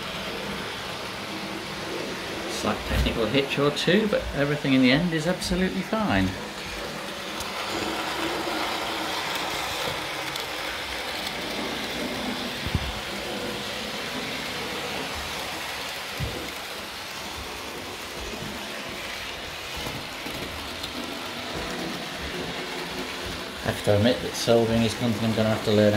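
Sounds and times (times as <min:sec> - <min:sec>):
model train whirring on rails: 0:00.0 - 0:25.9.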